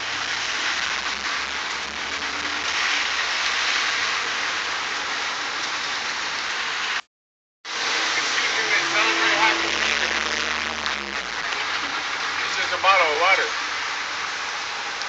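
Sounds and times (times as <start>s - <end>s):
rain on wet street: 0.0s - 7.1s, 7.7s - 15.0s.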